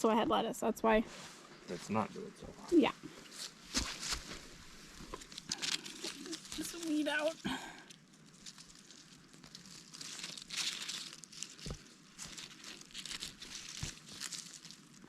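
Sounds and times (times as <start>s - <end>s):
rustling of dry leaves and plants: 2.7s - 15.0s.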